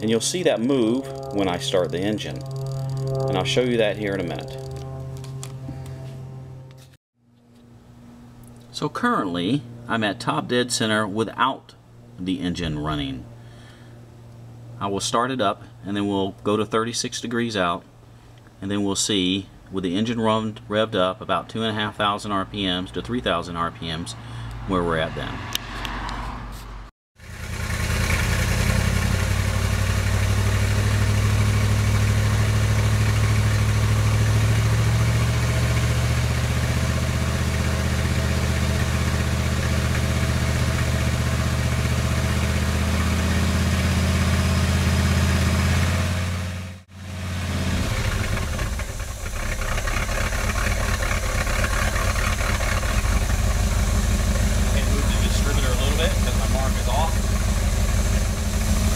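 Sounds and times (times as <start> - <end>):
engine running: 0.0 - 18.6, 27.2 - 58.9.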